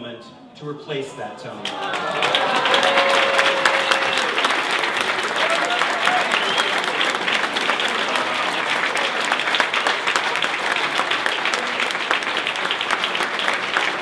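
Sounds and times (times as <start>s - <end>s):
crowd applauding: 1.6s - 14.0s.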